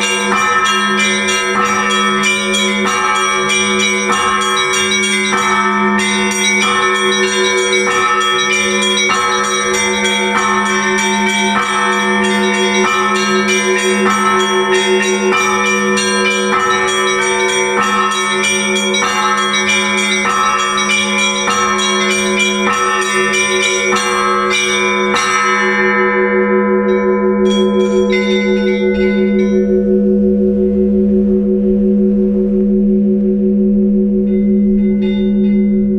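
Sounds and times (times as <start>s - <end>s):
small bells chiming rapidly: 0.0s - 30.0s, 34.3s - 35.9s
deep bell hum: 0.0s - 35.9s
heavy bell strokes: 0.0s - 35.9s.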